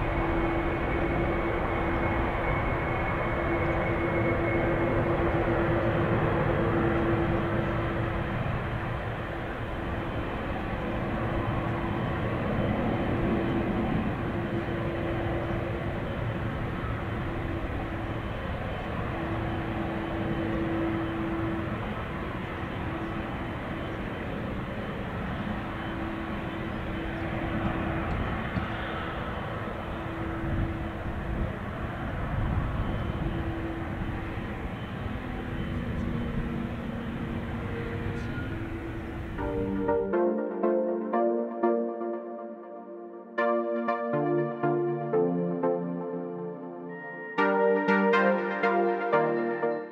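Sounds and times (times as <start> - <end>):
jet taking off: 0.0 - 42.4.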